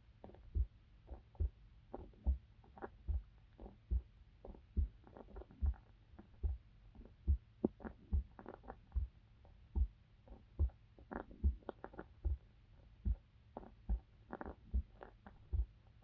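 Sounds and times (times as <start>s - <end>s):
heartbeat thumps: 0.0s - 16.0s.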